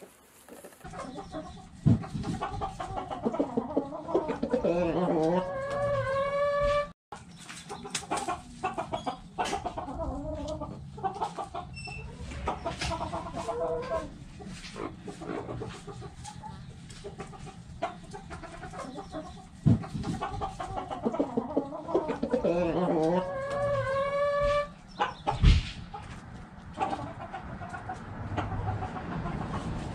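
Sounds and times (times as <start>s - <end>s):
hens clucking: 0.0s - 29.9s.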